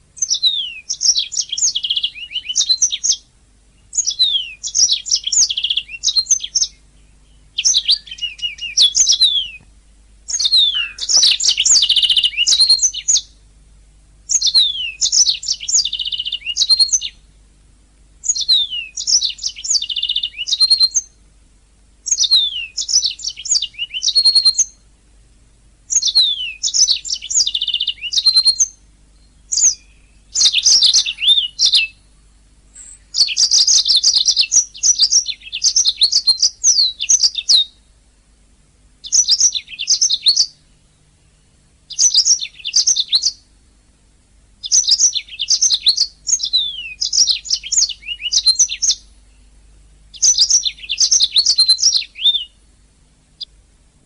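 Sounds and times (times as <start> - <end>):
canary singing: 0.2 - 9.7, 10.3 - 13.5, 14.2 - 17.3, 18.2 - 21.2, 22.0 - 24.9, 25.9 - 38.0, 39.0 - 43.6, 44.6 - 52.7.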